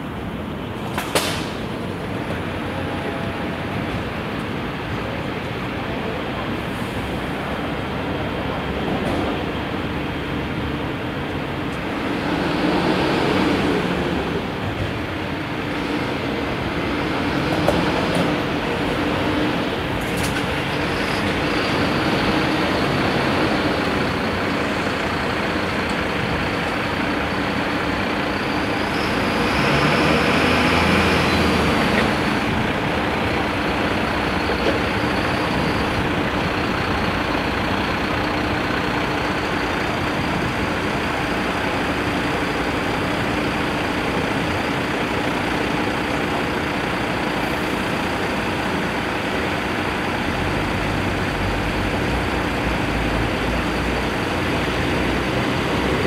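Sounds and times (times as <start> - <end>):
diesel fire engines running: 0.0 - 56.0.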